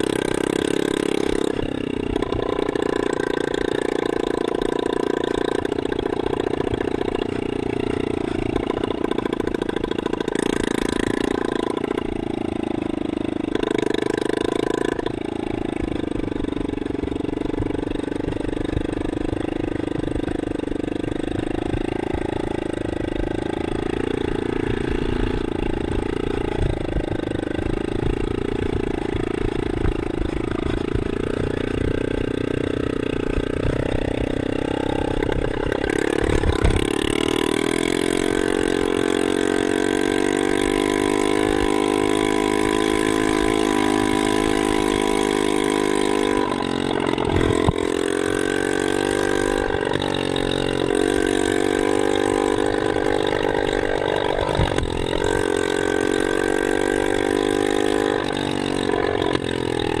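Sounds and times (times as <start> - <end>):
dirt bike engine running: 0.0 - 60.0.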